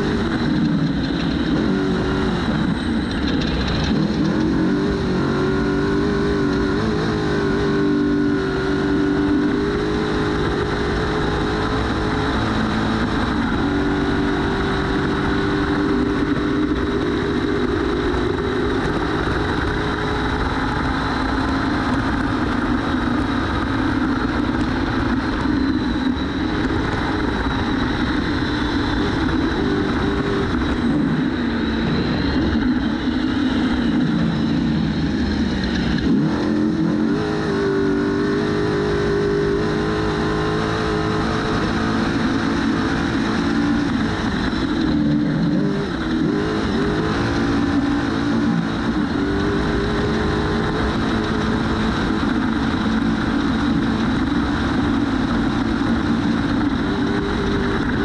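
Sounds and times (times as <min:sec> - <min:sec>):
truck engine revving: 0:00.0 - 0:58.0
wind and tyre noise: 0:00.0 - 0:58.0.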